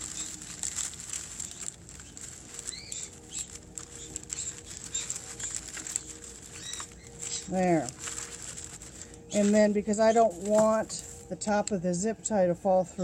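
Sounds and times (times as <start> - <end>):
paper shred crinkling: 0.0 - 11.6
bamboo ball rustling and crackling: 0.0 - 11.7.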